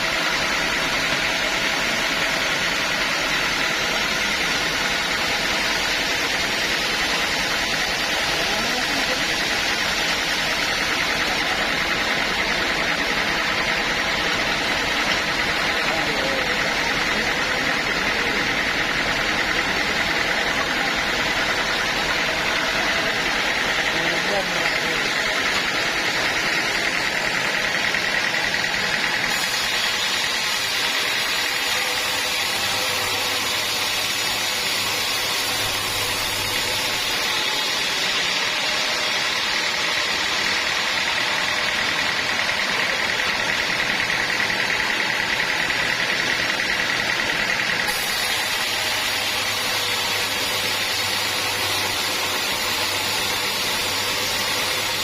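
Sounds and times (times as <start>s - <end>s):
high mechanical whine: 0.0s - 55.0s
sawmill machinery drone: 0.0s - 55.0s.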